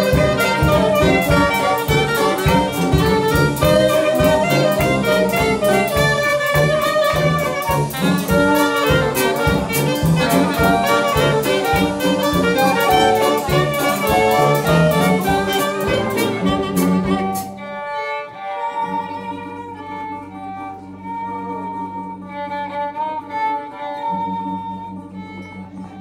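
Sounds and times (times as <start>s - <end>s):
jazz band playing: 0.0s - 26.0s
nasal horn violin solo: 0.0s - 26.0s.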